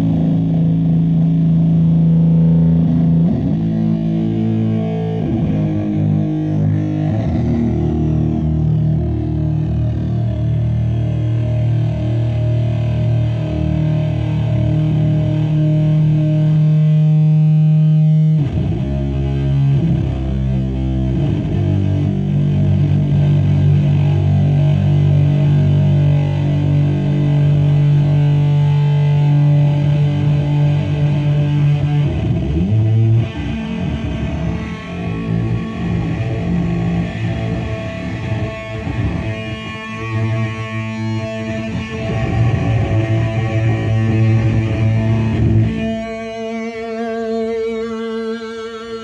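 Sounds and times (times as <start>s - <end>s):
distorted electric guitar chords: 0.0s - 49.0s.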